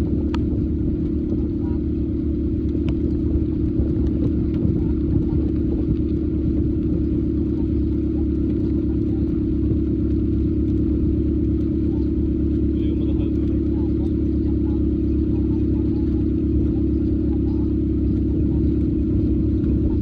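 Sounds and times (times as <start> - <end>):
vehicle engine low rumble: 0.0 - 20.0.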